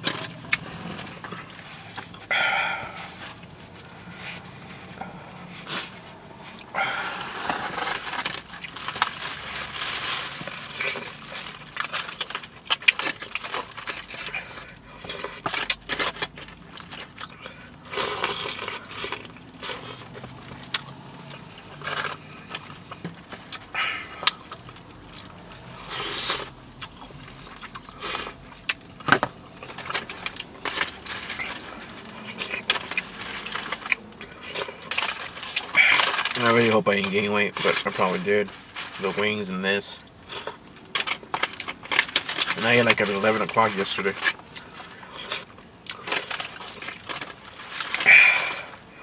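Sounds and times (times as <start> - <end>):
chewing: 0.0 - 39.3, 40.0 - 49.0.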